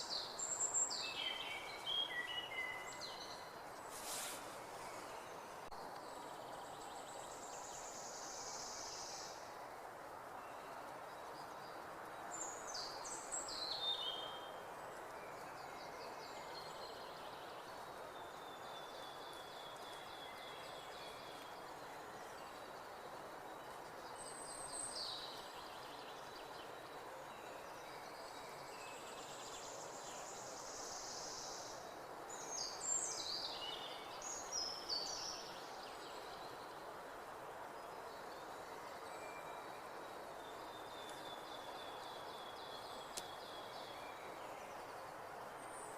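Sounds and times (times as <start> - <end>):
songbirds singing: 0.0 - 45.9
steady background hiss: 0.0 - 45.9.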